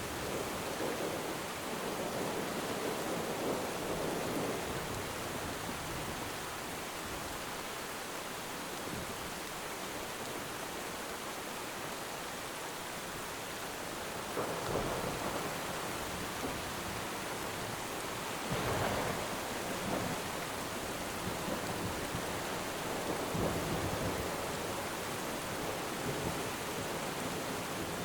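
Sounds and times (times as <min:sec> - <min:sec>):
steady rainfall hiss: 0:00.0 - 0:28.0.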